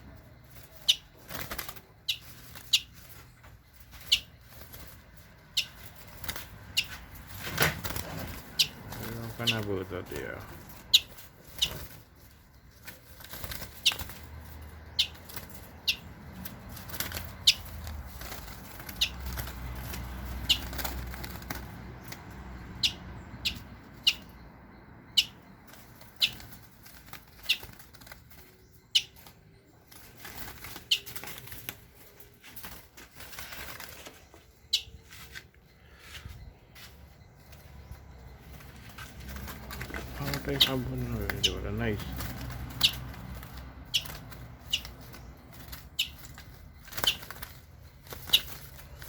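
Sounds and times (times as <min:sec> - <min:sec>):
birds fluttering in a cage: 0:00.0 - 0:49.0.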